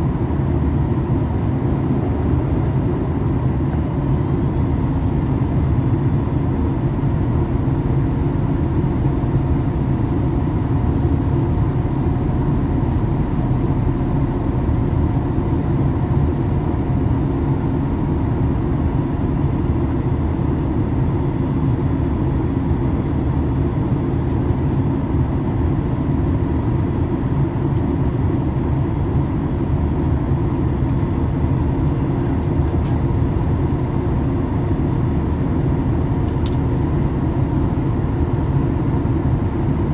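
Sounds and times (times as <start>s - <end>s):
jet engines: 0.0s - 39.9s.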